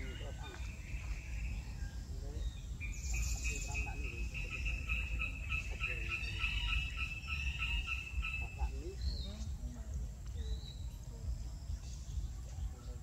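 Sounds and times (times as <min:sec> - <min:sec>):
high pulsing chirping call: 0:00.0 - 0:13.0.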